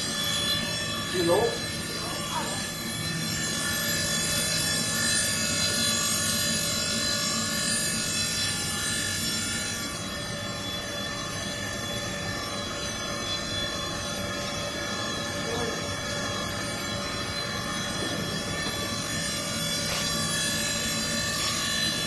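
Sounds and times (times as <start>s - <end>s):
grinding machine hum: 0.0s - 22.0s.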